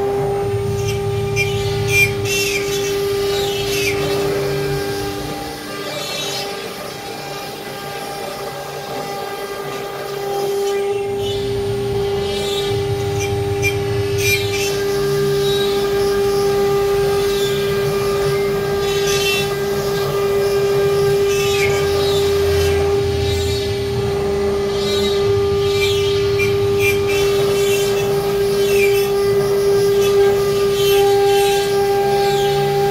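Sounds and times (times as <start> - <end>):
router spindle whining: 0.0 - 32.9.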